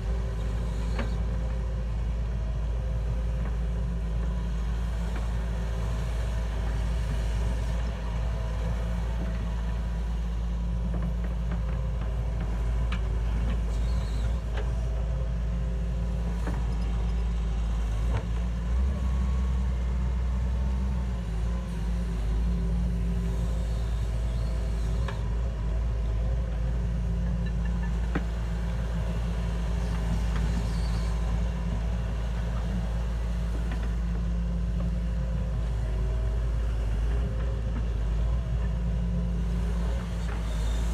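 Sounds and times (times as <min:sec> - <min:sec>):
heavy machine engine rumbling: 0:00.0 - 0:40.9.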